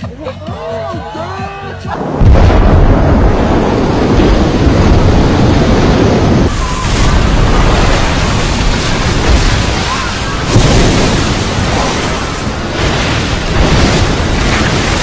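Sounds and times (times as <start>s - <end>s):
wave surging ashore: 2.2s - 15.0s.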